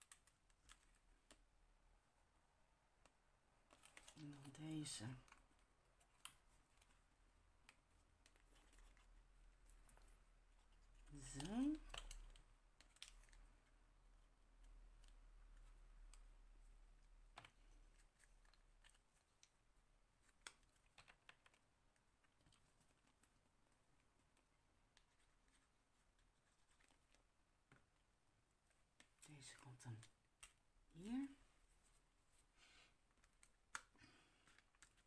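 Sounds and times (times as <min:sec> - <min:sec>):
faint paper and tool clicks: 0:00.0 - 0:01.8, 0:02.8 - 0:35.0.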